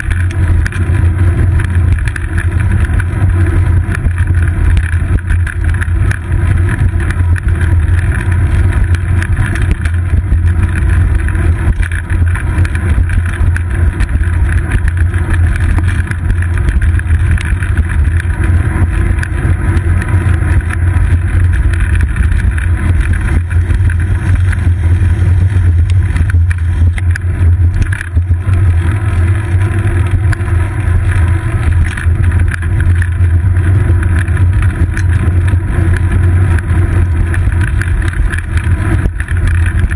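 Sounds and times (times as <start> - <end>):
road vibration rumble: 0.0 - 39.9.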